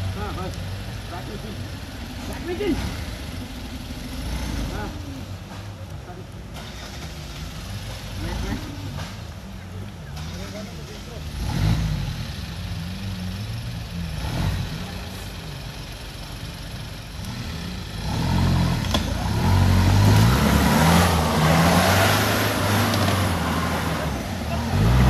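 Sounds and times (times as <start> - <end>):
engine revving: 0.0 - 5.7, 6.5 - 25.0.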